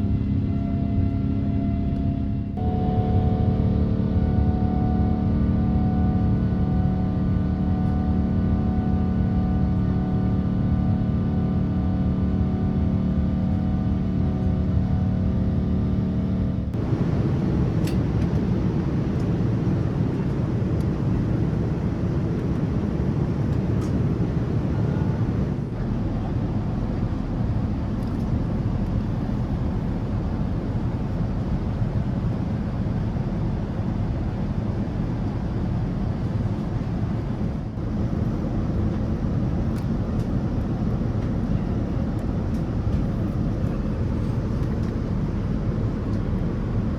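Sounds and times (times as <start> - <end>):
airliner cabin engine drone: 0.0 - 46.9.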